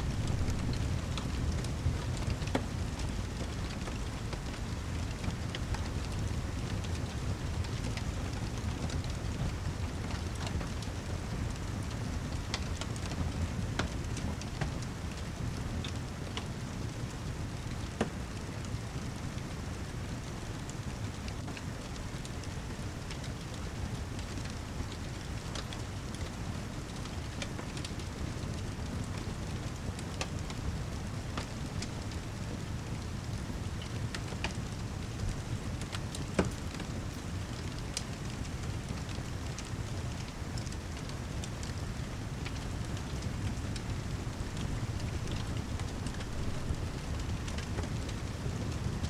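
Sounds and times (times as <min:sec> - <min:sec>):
heavy rain: 0:00.0 - 0:17.9, 0:23.6 - 0:49.0
fireplace pops and crackles: 0:00.0 - 0:49.0.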